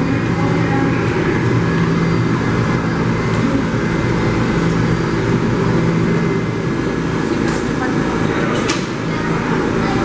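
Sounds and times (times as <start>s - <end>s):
subway train low hum: 0.0s - 10.0s.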